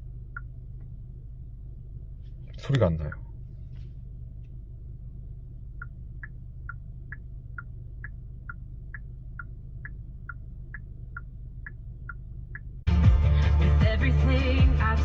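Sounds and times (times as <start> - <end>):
turn signal ticking: 0.0 - 12.9
low cabin rumble: 0.0 - 15.0.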